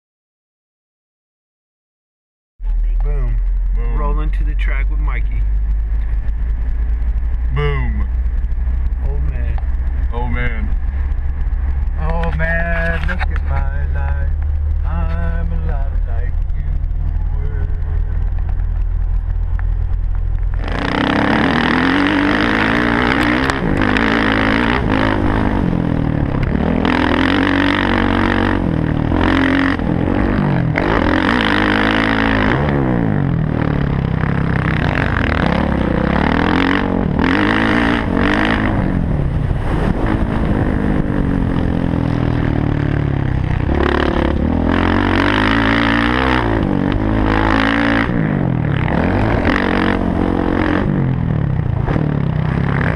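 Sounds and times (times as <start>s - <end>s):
low engine drone in vehicle cab: 2.6s - 52.9s
dirt bike engine revving: 3.2s - 52.9s.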